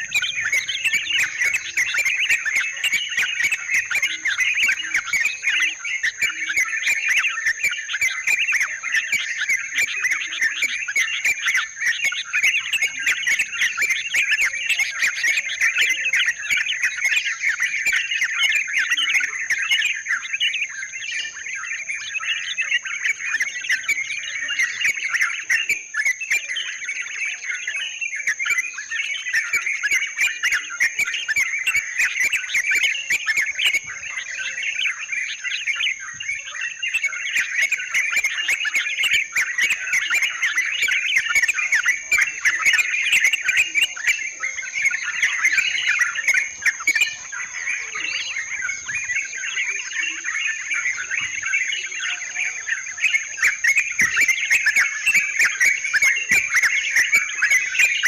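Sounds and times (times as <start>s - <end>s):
bulbuls chattering: 0.0s - 58.0s.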